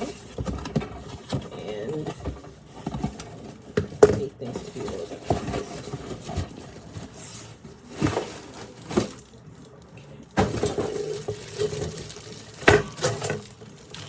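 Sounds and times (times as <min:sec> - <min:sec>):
handling noise: 0:00.0 - 0:14.0.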